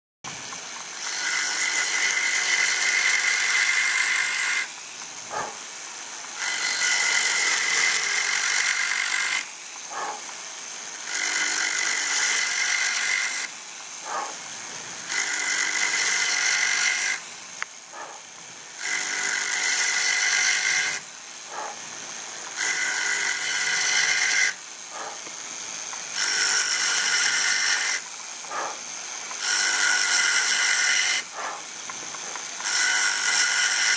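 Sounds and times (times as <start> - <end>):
power tool cutting wood: 0.3 - 33.9.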